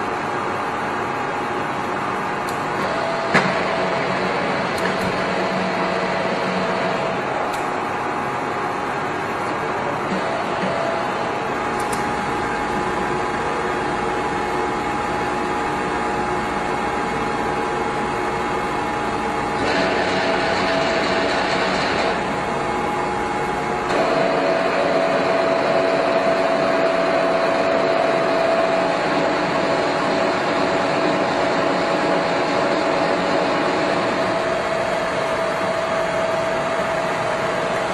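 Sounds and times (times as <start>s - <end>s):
lathe humming with gear whine: 0.0s - 37.9s.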